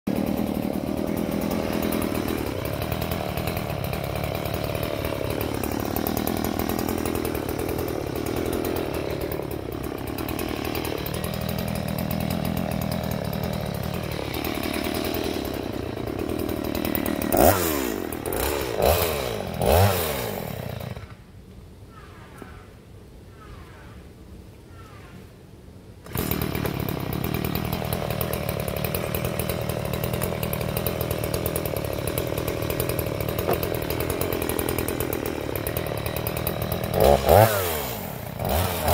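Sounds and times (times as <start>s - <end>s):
chainsaw cutting wood: 0.1s - 21.2s, 26.0s - 38.9s.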